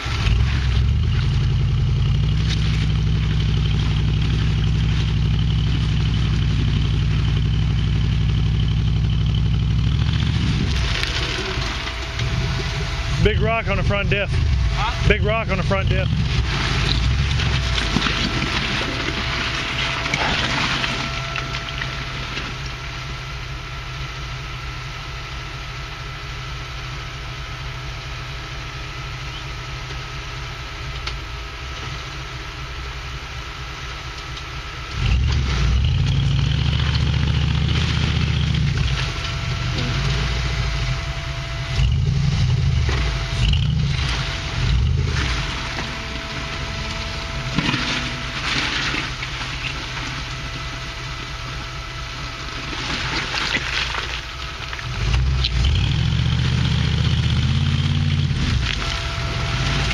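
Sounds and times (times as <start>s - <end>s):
buggy engine idling and revving: 0.0s - 59.9s.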